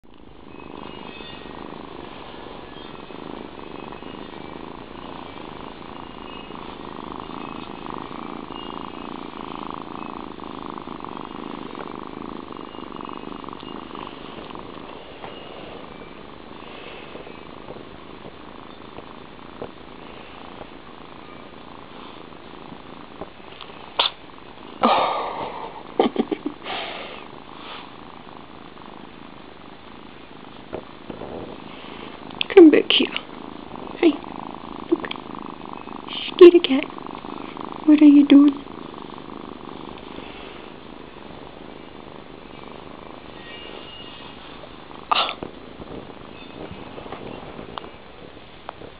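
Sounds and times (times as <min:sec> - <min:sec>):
kitten purring: 0:00.0 - 0:48.9.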